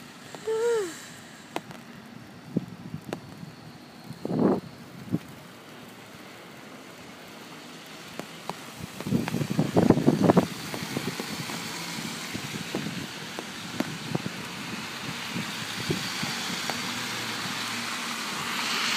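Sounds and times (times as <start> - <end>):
tyres hissing on snow: 0.0 - 2.1, 3.7 - 18.9.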